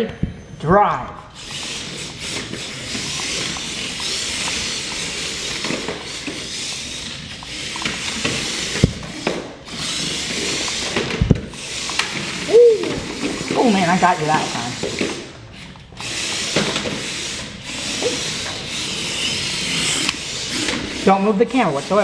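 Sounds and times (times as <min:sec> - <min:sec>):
toy electric motors whirring: 0:01.3 - 0:22.0.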